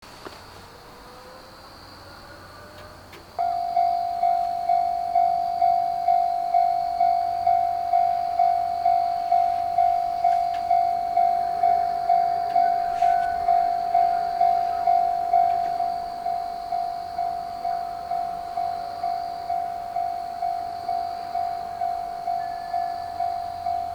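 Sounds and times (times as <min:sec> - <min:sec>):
level-crossing warning bell: 0:00.8 - 0:23.9.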